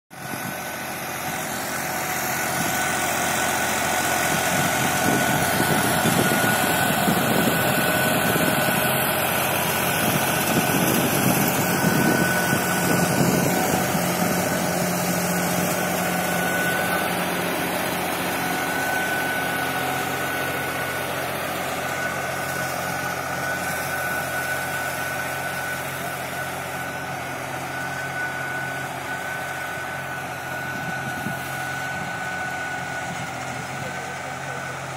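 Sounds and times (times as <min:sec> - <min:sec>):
tractor diesel engine under load: 0:00.1 - 0:34.9
steady high whine: 0:00.2 - 0:34.9.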